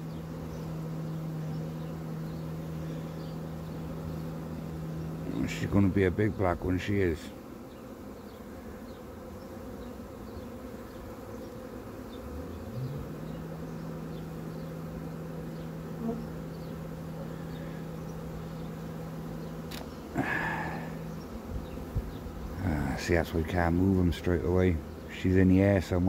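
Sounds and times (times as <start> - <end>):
bees buzzing: 0.0 - 26.0
steady low hum: 0.0 - 26.0.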